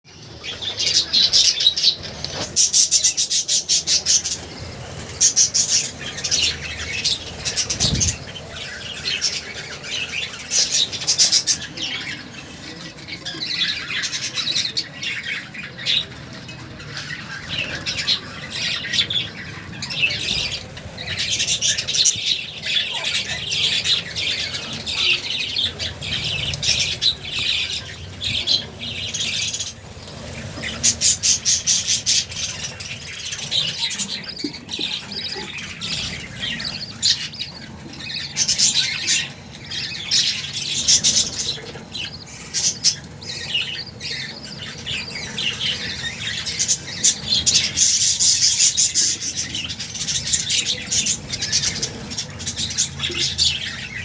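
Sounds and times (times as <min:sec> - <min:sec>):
budgerigars chirping and chattering: 0:00.1 - 0:54.0.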